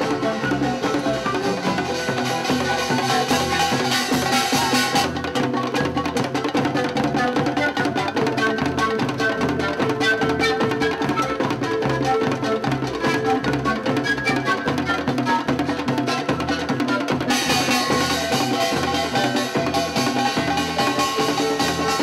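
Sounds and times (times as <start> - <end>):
drums beating dense rhythm: 0.0 - 22.0
panpipes melody: 0.0 - 22.0.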